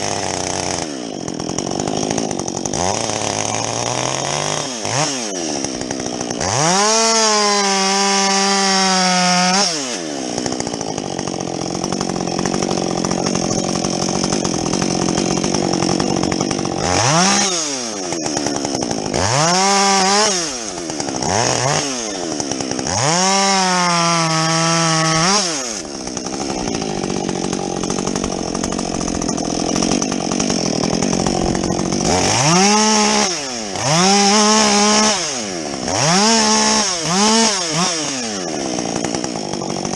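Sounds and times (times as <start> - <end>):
chainsaw cutting log: 0.0 - 39.9
chainsaw revving: 0.0 - 39.9.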